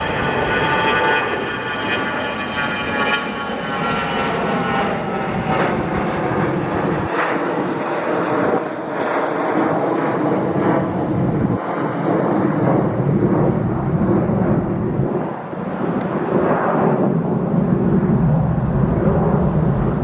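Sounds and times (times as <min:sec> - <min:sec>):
airliner engines roaring: 0:00.0 - 0:20.0
engine whine: 0:00.0 - 0:20.0.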